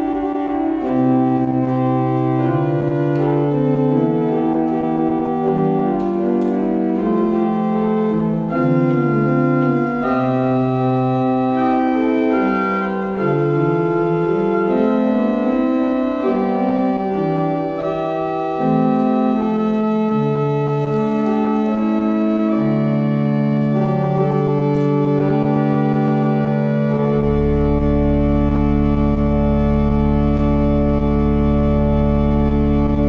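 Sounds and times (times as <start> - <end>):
organ playing sustained chords: 0.0 - 33.0.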